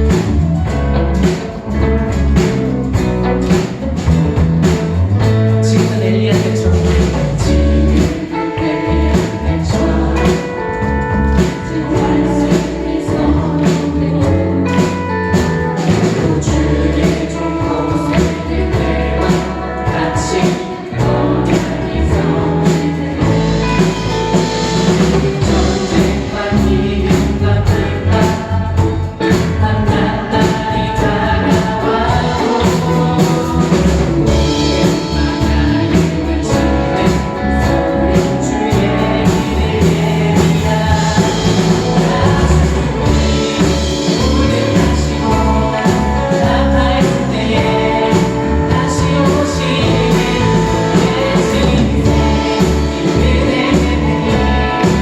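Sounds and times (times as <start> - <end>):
band playing worship song: 0.0 - 55.0
voices singing together: 0.0 - 55.0.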